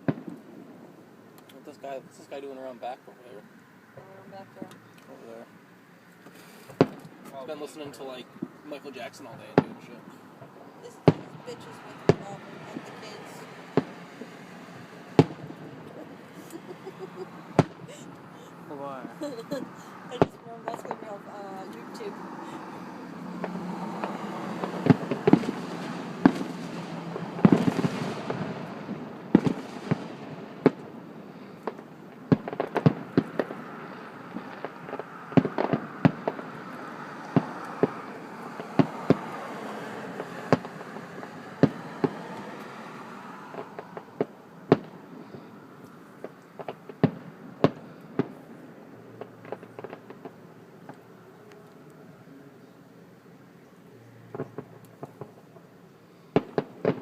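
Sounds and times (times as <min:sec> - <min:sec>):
fireworks bangs: 0:00.0 - 0:01.0, 0:06.2 - 0:51.1, 0:54.3 - 0:57.0
fireworks crackle: 0:00.0 - 0:05.5, 0:06.1 - 0:51.9, 0:54.3 - 0:57.0.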